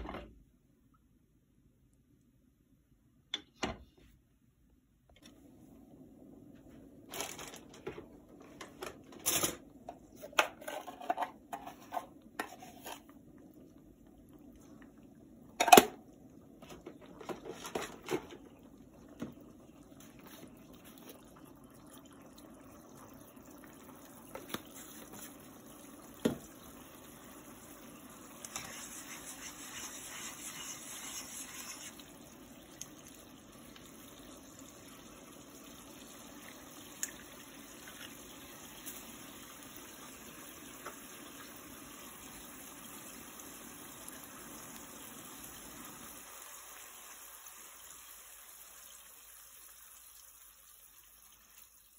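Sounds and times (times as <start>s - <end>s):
water heating in frying pan: 5.6s - 51.9s.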